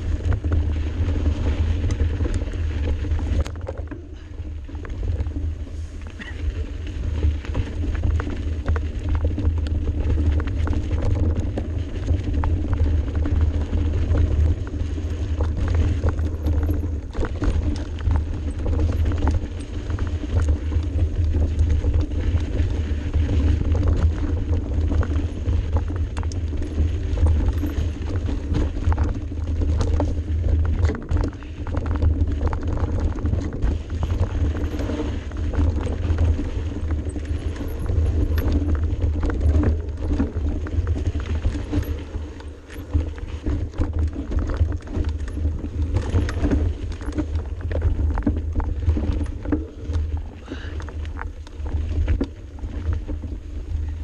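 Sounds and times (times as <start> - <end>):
bike rattling over bumps: 0.0 - 54.0
wind and vibration rumble: 0.0 - 54.0.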